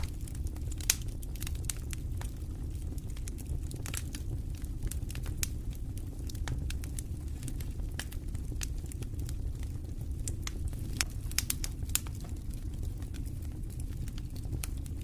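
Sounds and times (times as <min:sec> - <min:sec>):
campfire crackling and popping: 0:00.0 - 0:15.0
low rumble of wind: 0:00.0 - 0:15.0.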